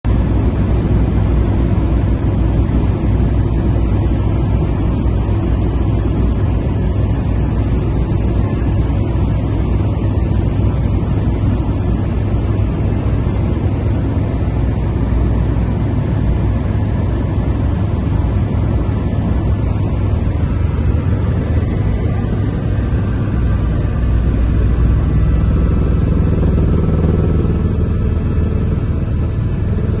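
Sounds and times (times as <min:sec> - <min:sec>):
helicopter engine and rotor rumble: 0:00.0 - 0:30.0.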